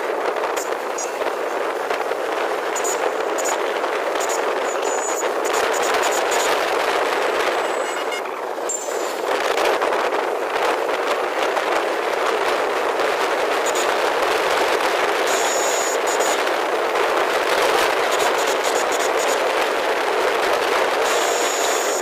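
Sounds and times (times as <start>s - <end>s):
road and traffic noise: 0.0s - 22.0s
wind rushing on microphone: 0.0s - 22.0s.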